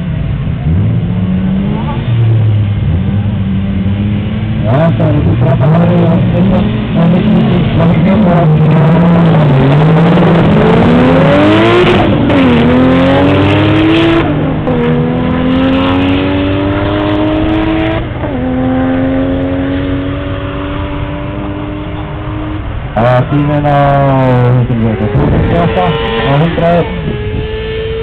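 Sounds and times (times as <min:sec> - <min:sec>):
race car engine accelerating: 0:00.2 - 0:28.0.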